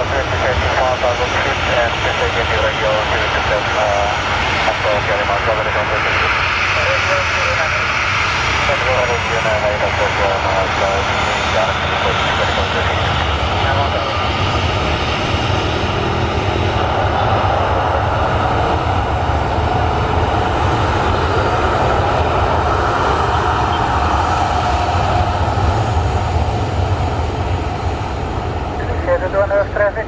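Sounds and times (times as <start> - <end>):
jet engines during takeoff: 0.0 - 30.0.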